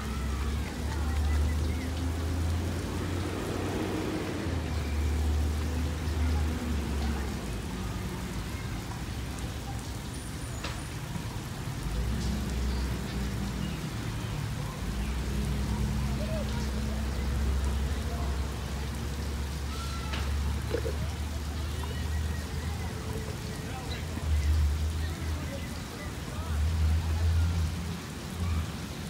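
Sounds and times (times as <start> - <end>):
water spraying onto asphalt: 0.0 - 29.0.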